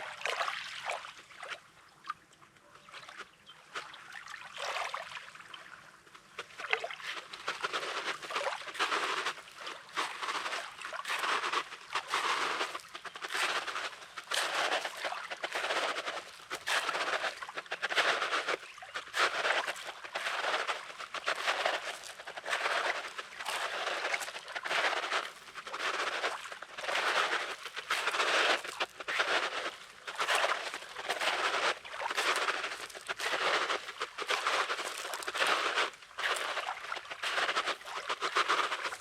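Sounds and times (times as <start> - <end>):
waves washing over pebbles: 7.0 - 39.0.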